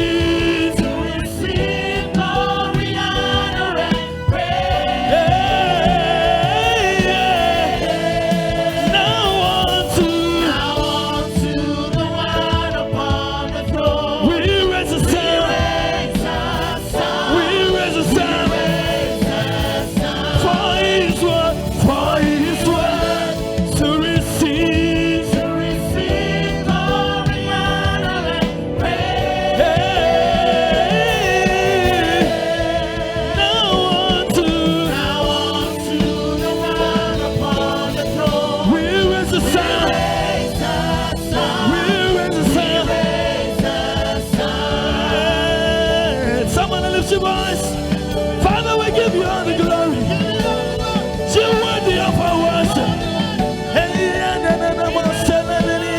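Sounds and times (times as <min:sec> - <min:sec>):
gospel choir singing: 0:00.0 - 0:55.9
live band playing: 0:00.0 - 0:55.9.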